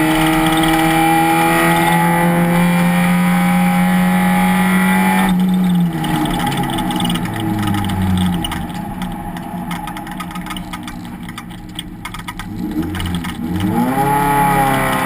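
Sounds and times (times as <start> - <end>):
race car engine at full throttle: 0.0 - 15.0.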